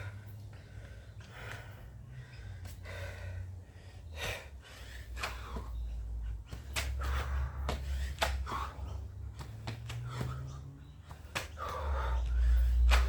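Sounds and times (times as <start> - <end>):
person breathing hard: 0.0 - 13.0.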